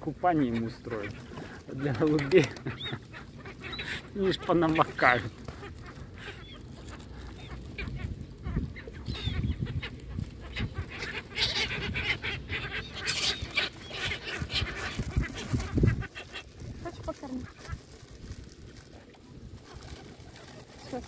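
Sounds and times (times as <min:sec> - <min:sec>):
gulls and ducks calling: 0:00.3 - 0:21.0
wing flaps: 0:01.0 - 0:04.1, 0:04.7 - 0:21.0.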